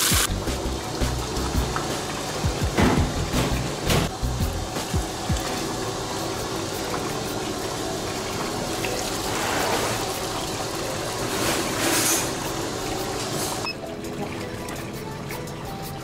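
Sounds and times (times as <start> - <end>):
tap water running onto pasta: 0.0 - 16.0.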